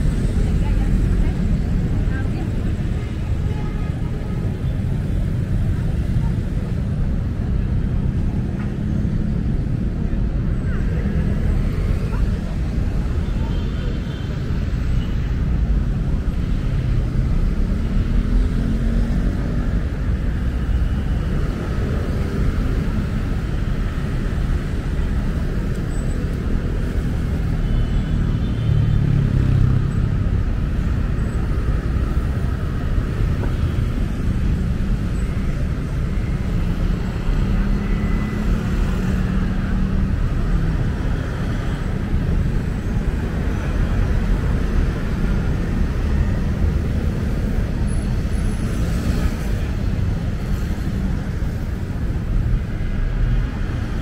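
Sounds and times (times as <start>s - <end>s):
heavy road traffic rumble: 0.0s - 54.0s.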